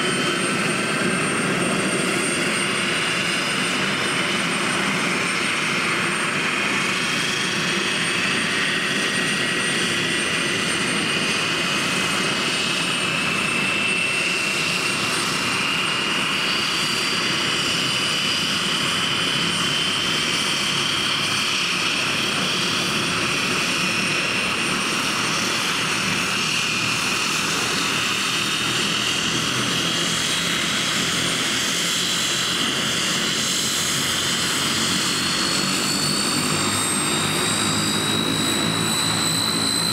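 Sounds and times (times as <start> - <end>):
high turbine whine: 0.0 - 39.9
propeller rumble: 0.0 - 39.9.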